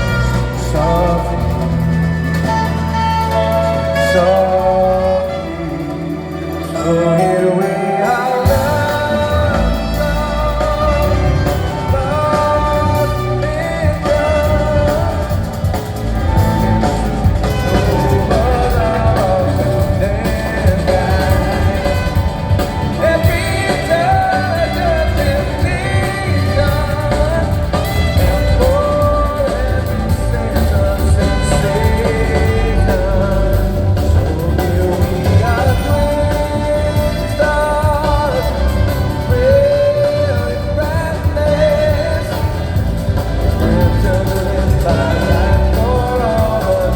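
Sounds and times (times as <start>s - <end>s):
drums: 0.0s - 46.9s
live band playing: 0.0s - 46.9s
steady bass: 0.0s - 46.9s
wavering lead melody: 0.0s - 46.9s.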